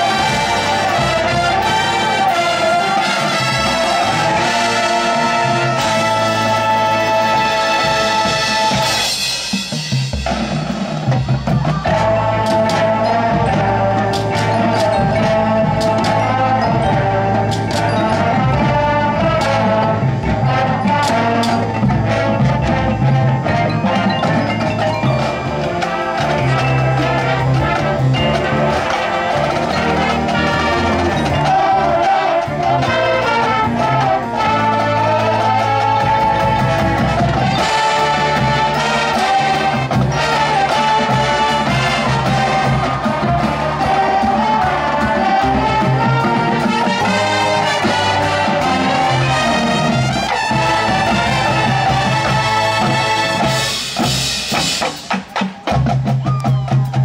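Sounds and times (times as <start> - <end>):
marching band playing: 0.0 - 57.0
marimba: 0.0 - 57.0
sharp percussion strikes: 0.0 - 57.0.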